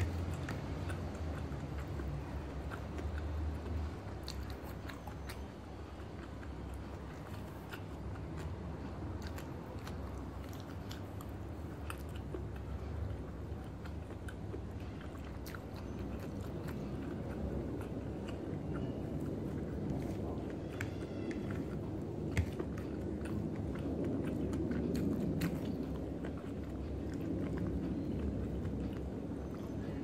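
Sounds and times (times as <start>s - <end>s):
low hum: 0.0s - 30.0s
person chewing food: 0.0s - 30.0s.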